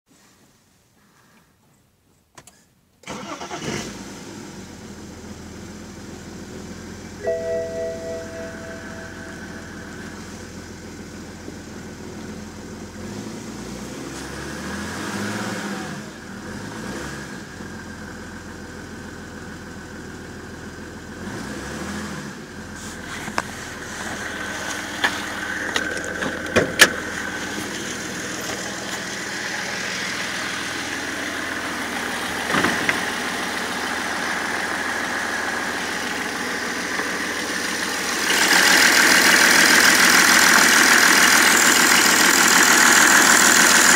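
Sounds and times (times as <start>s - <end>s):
diesel engine running: 3.1s - 14.0s, 15.7s - 43.9s.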